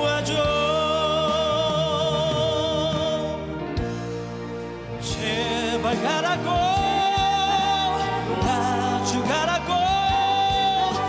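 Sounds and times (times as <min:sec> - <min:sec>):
man singing rock ballad: 0:00.0 - 0:03.9, 0:05.0 - 0:11.0
band playing: 0:00.0 - 0:11.0.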